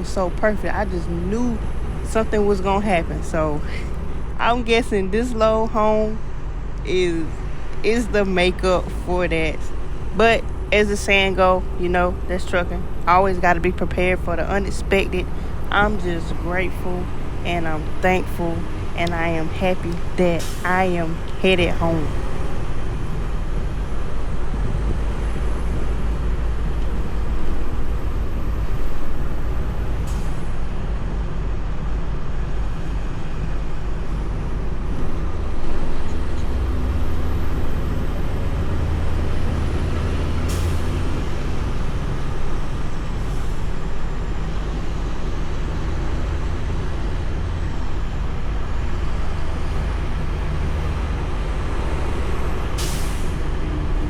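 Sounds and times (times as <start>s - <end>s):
road noise inside cab: 0.0s - 54.0s
truck engine rumble: 0.0s - 54.0s.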